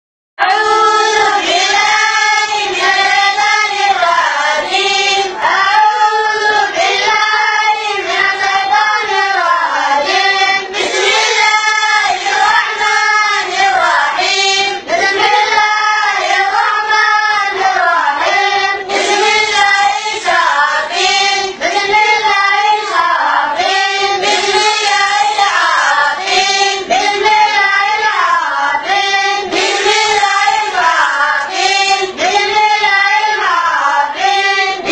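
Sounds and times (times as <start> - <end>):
children chanting in unison: 0.4 - 34.9.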